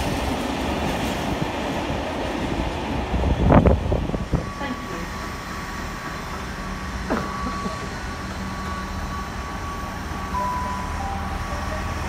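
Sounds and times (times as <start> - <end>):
train motors humming: 0.0 - 12.0.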